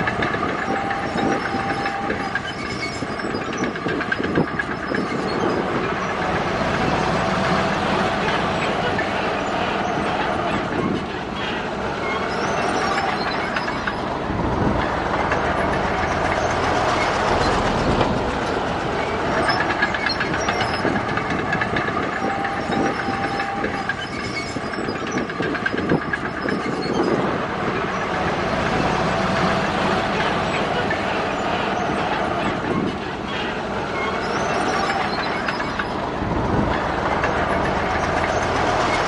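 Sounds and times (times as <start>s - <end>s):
diesel engine under load: 0.0s - 39.0s
steel tracks clanking: 0.0s - 39.0s.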